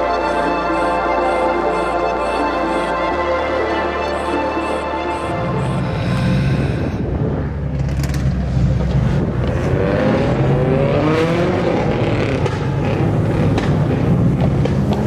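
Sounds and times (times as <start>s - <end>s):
cars driving along street: 0.0s - 15.0s
engine revving up: 0.0s - 15.0s.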